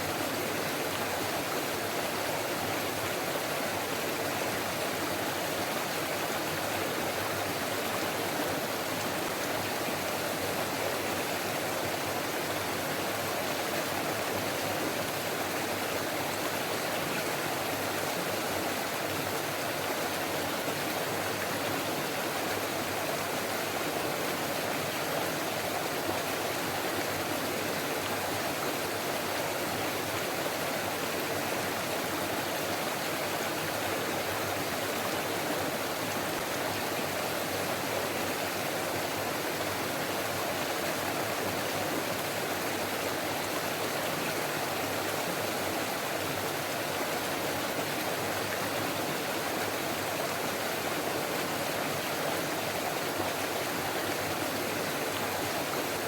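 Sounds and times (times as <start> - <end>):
forest stream babbling: 0.0 - 56.0.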